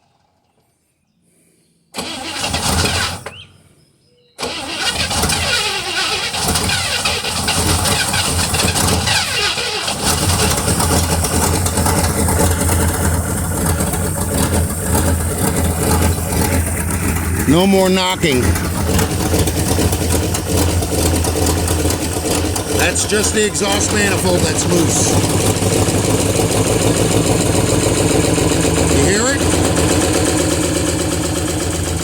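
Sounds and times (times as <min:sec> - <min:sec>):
car engine starting and running: 0:02.0 - 0:03.5, 0:04.4 - 0:32.0.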